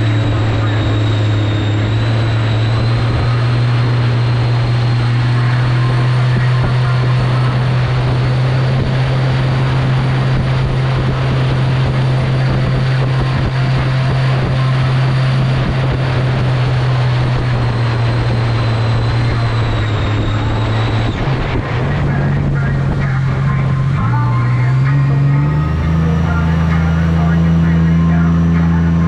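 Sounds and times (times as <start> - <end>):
boat engine drone: 0.0 - 29.0
high jet pump whine: 0.0 - 29.0.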